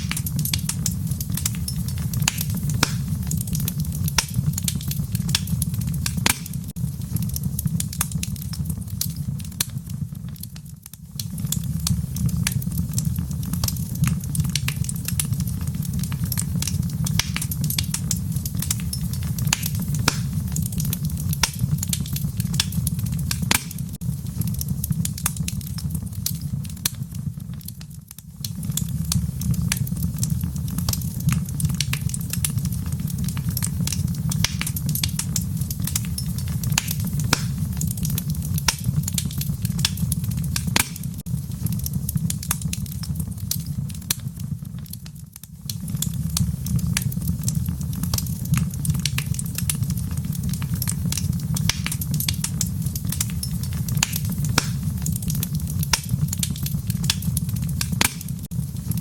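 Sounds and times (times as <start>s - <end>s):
crackles and pops of burning logs: 0.0s - 59.0s
fire low rumble: 0.0s - 59.0s.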